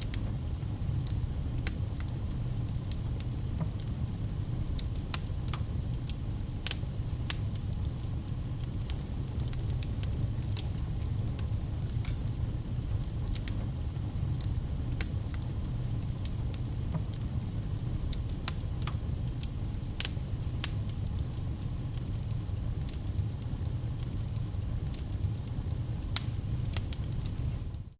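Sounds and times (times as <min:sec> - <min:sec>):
campfire crackling and popping: 0:00.0 - 0:27.8.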